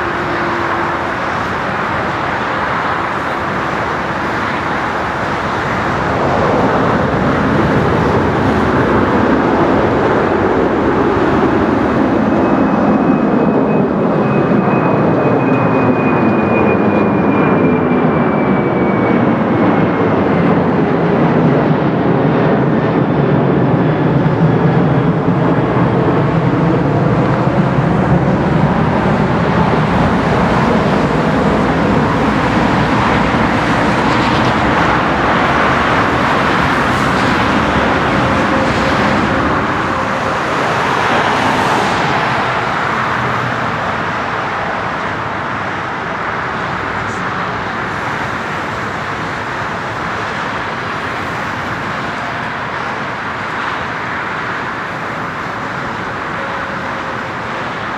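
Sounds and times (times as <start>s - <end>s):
high fan whine: 0.0s - 57.9s
jet engines passing: 0.0s - 57.9s.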